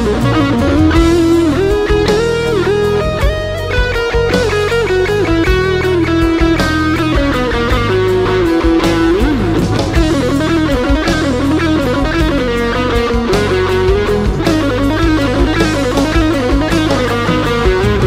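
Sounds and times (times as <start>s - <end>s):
bass notes: 0.0s - 18.0s
distorted electric guitar lead: 0.0s - 18.0s
drum beat: 0.0s - 18.0s.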